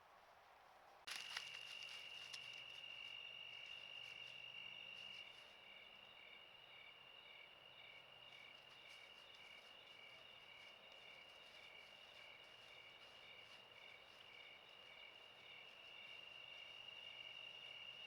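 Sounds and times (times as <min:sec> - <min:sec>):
insect chirping: 0:01.1 - 0:18.0.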